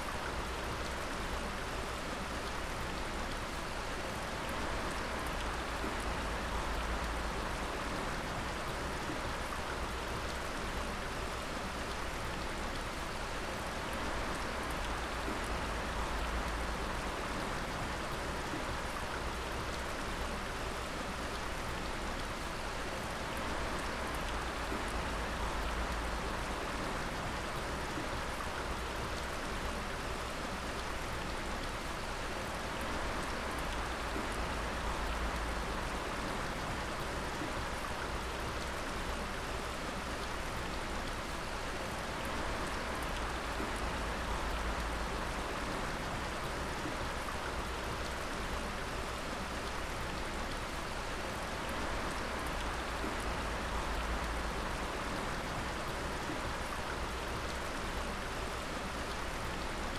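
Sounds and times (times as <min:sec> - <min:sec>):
water dripping and splashing: 0:00.2 - 0:59.9.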